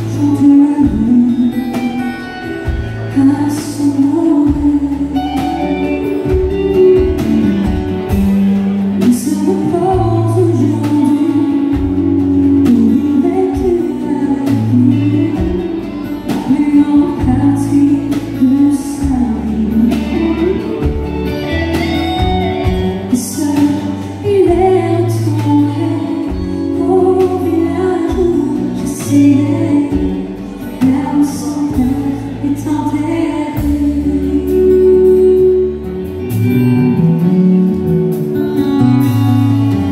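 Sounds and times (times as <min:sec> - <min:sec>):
woman singing: 0:00.0 - 0:07.5, 0:08.8 - 0:35.9
bass line: 0:00.0 - 0:39.9
drum kit: 0:00.0 - 0:39.9
electric and acoustic guitars: 0:00.0 - 0:39.9.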